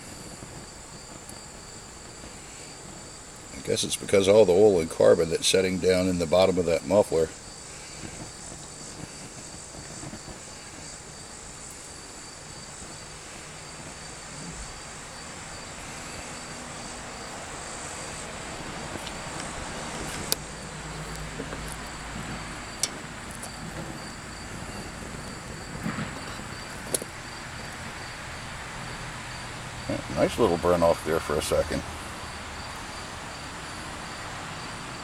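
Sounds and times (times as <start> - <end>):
crickets chirping: 0.0 - 35.0
flame rushing: 0.0 - 35.0.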